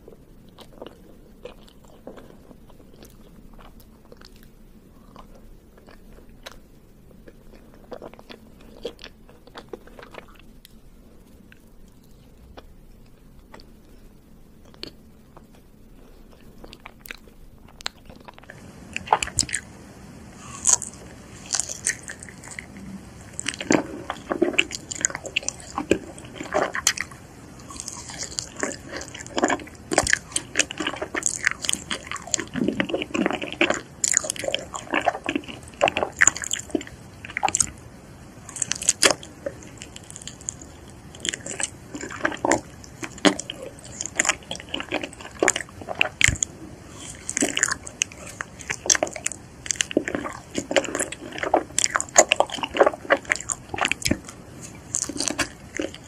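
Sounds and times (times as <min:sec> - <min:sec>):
biting and chewing: 0:00.0 - 0:10.8, 0:14.6 - 0:56.0.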